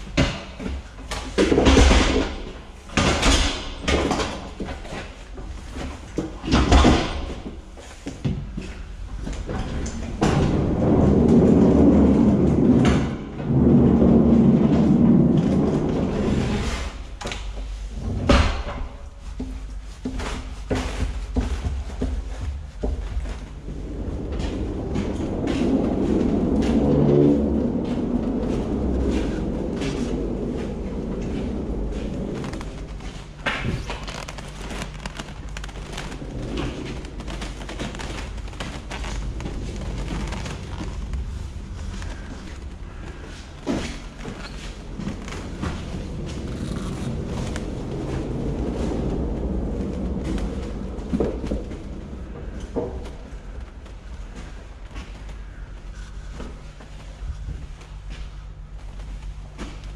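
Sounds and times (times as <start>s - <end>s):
pallet jack wheels rumbling on metal: 0.0s - 56.4s.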